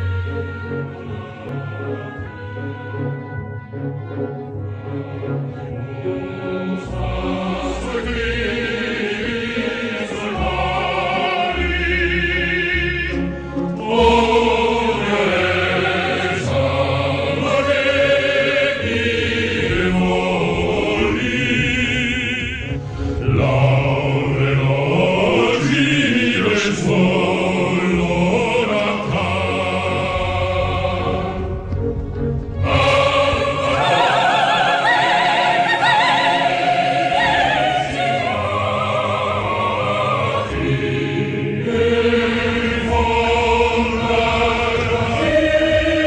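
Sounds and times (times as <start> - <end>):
choir singing with vibrato: 0.0 - 3.2, 4.5 - 46.0.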